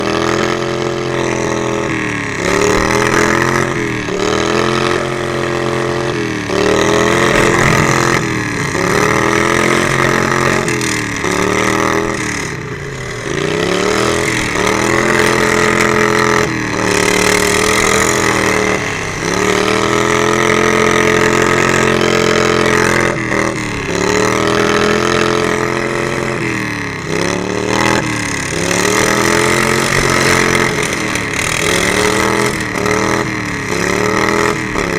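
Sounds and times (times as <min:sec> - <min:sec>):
riding lawn mower engine: 0:00.0 - 0:34.9.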